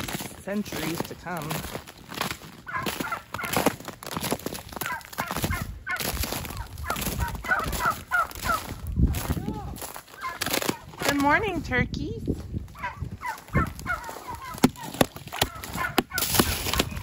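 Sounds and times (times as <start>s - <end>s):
turkeys calling: 0.0s - 11.4s, 12.7s - 17.0s
footsteps crunching on ice: 0.0s - 17.0s.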